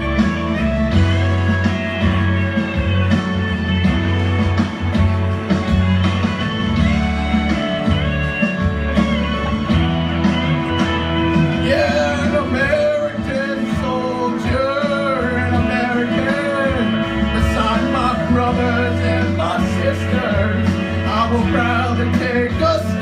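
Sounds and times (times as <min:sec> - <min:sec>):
instrumental country rock music: 0:00.0 - 0:23.0.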